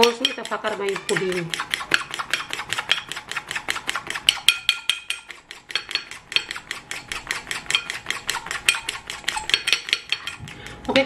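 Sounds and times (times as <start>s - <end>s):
whisk clicking against dish: 0.0s - 11.0s.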